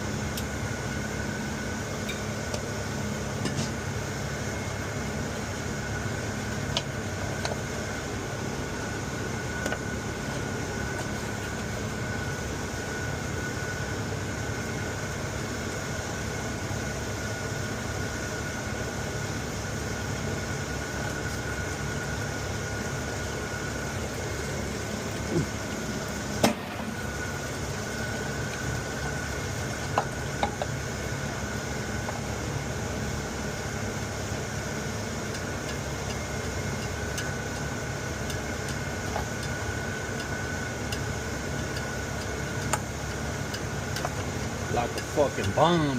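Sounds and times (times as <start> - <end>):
machinery humming: 0.0 - 45.9.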